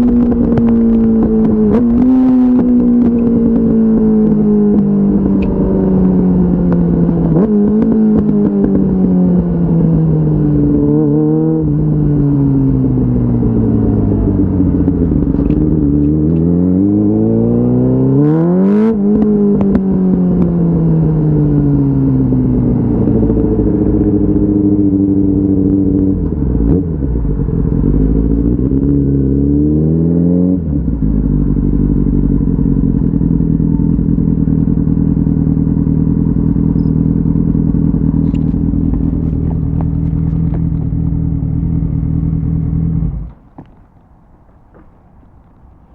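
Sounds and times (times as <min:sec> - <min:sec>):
motorcycle engine revving and downshifting: 0:00.0 - 0:43.7.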